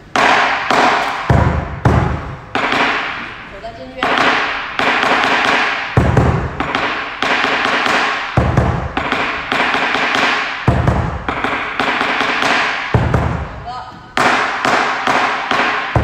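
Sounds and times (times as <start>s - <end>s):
deep beat: 0.0s - 16.0s.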